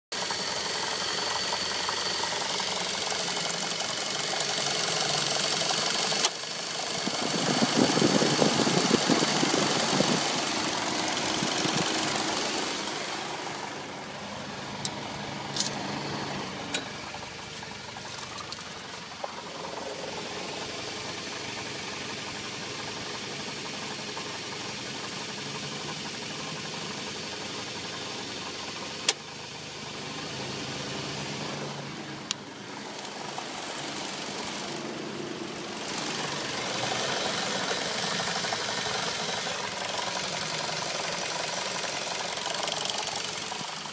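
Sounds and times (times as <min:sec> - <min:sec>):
car engine running: 0:00.1 - 0:43.9.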